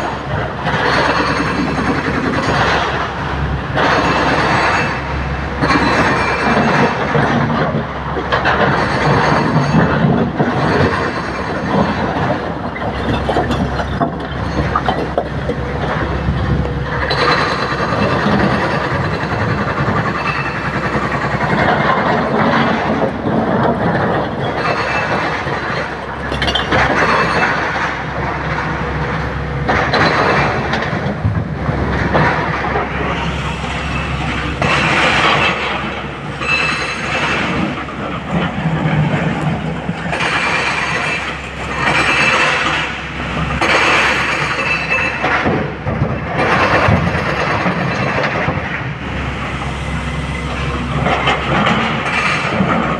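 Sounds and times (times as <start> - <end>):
excavator diesel engine: 0.0 - 52.9.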